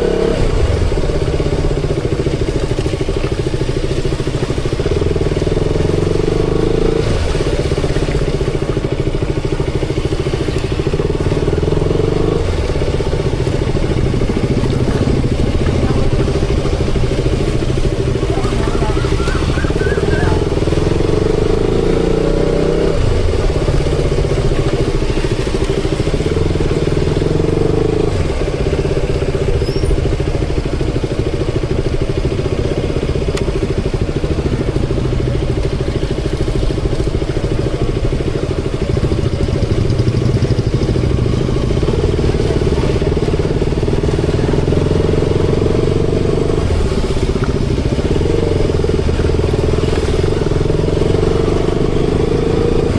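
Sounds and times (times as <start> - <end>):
motorcycle engine running: 0.0 - 52.9
road noise: 0.0 - 52.9.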